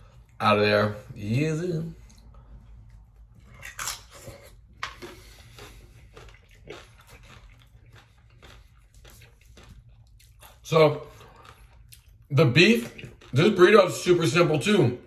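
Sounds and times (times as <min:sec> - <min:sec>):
wet chewing sounds: 0:01.8 - 0:14.6.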